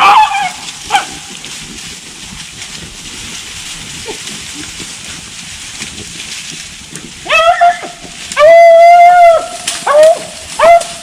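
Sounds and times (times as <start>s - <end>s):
crackling rustle: 0.0s - 11.0s.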